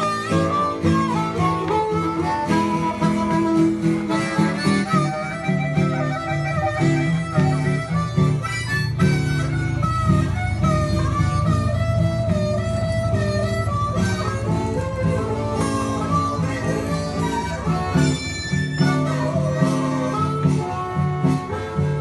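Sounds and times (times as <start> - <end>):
blues harmonica: 0.0 - 22.0
strummed acoustic guitar: 0.0 - 22.0.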